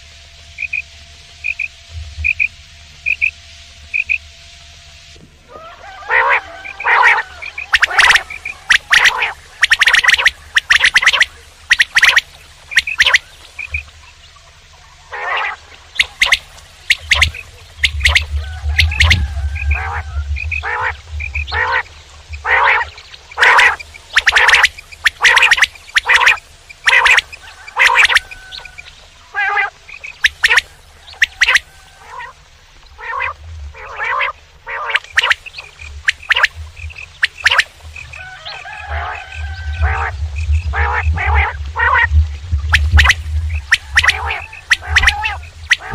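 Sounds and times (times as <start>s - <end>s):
low hum: 0.0s - 45.9s
quail calling: 5.5s - 14.0s, 15.0s - 45.9s.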